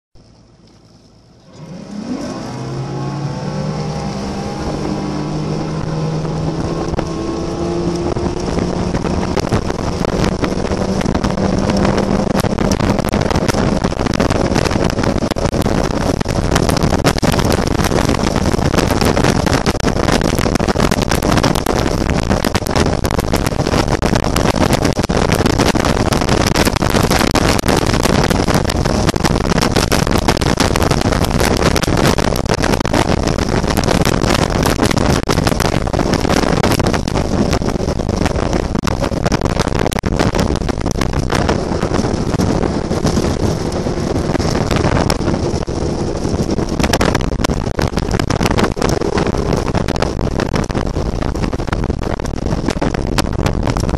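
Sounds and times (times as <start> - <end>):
outboard motor throttling up: 0.2 - 53.9
rushing wind and water: 0.2 - 53.9.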